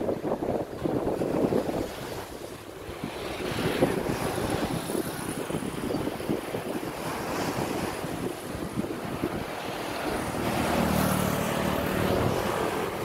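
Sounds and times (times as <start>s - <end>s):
sea waves breaking on rocks: 0.0s - 13.0s
wind buffeting microphone: 0.0s - 13.0s.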